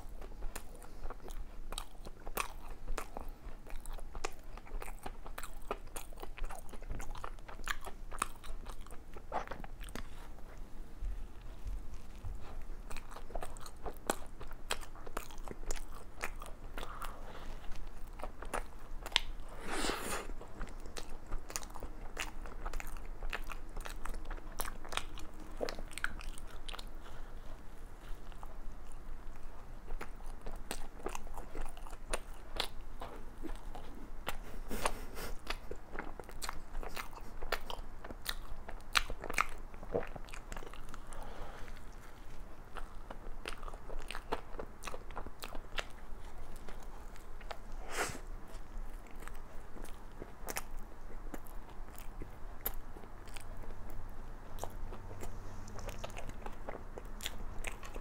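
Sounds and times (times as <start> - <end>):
chewing and biting doughnut: 0.0 - 58.0.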